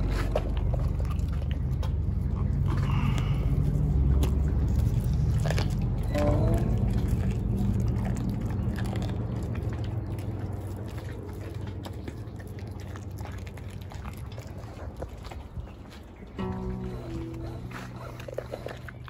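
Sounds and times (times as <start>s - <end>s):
dog chewing bone: 0.0s - 19.0s
low steady hum: 0.0s - 19.0s.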